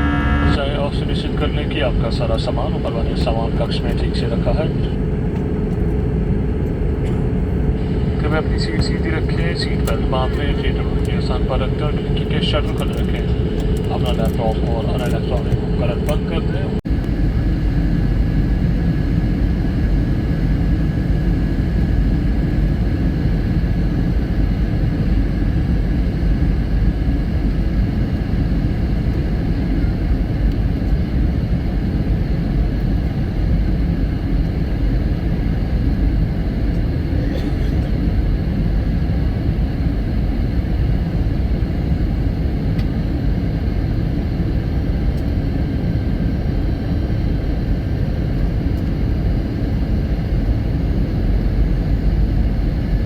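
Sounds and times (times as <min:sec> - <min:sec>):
airliner cabin roar: 0:00.0 - 0:53.0.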